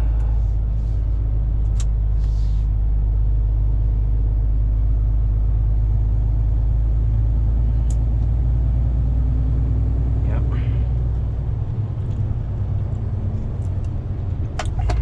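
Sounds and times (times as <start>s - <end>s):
diesel engine and road rumble: 0.0s - 15.0s.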